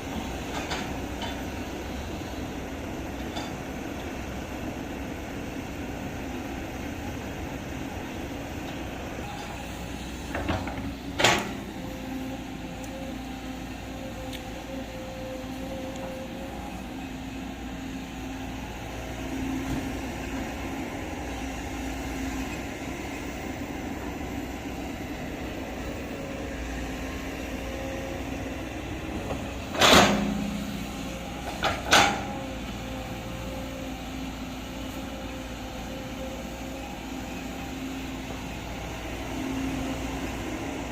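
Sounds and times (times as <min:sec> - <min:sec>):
excavator engine humming: 0:00.0 - 0:40.9.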